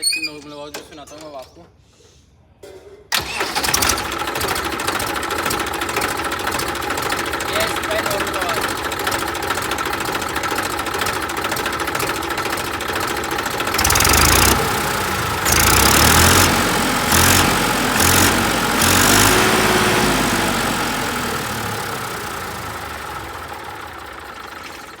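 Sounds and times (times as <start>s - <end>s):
tractor diesel engine idling and revving: 3.2s - 25.0s.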